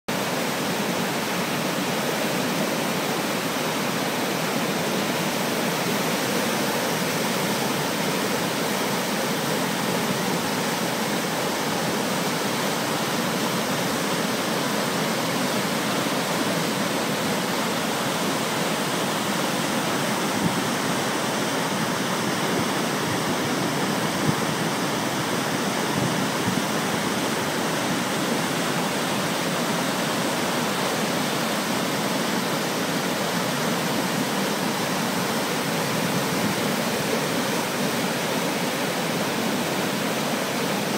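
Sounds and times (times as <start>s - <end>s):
river rapids rushing over boulders: 0.1s - 40.9s.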